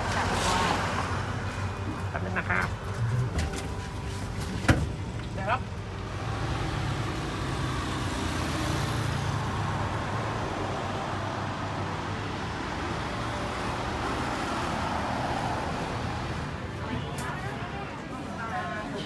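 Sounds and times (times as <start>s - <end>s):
car engines passing: 0.0s - 19.0s.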